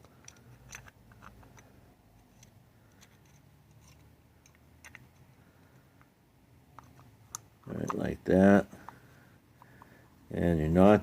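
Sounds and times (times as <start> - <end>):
small parts clicking and scraping: 0.0 - 10.2.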